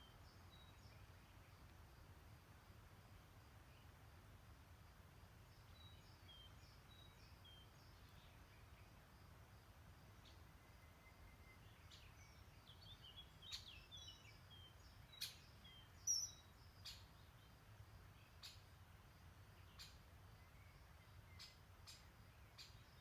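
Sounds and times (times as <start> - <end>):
small birds chirping: 0.0 - 1.8, 5.4 - 9.1, 10.1 - 23.0.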